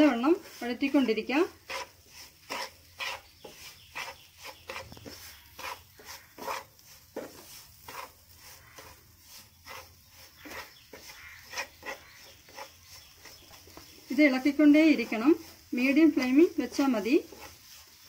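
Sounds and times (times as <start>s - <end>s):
wooden spatula scraping frying pan: 0.0s - 18.0s.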